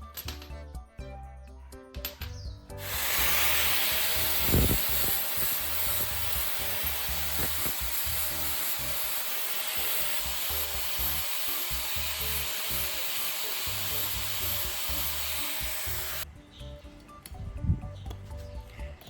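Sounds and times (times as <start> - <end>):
background music with bass: 0.0 - 9.2, 9.8 - 13.0, 13.6 - 19.0.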